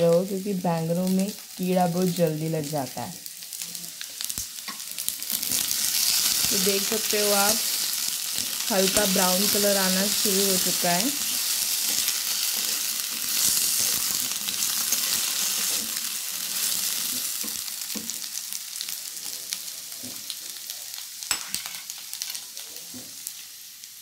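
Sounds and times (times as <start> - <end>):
potato slices sizzling in oil: 0.0 - 24.0.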